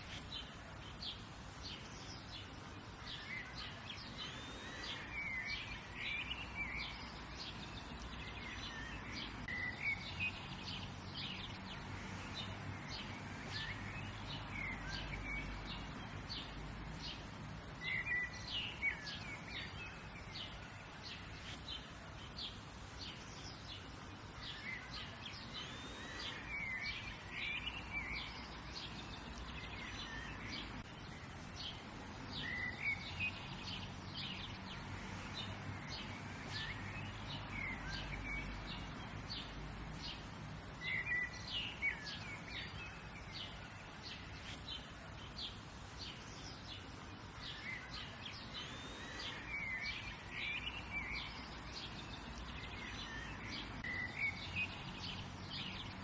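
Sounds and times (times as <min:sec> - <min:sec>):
wild birds chirping and singing: 0:00.0 - 0:56.0.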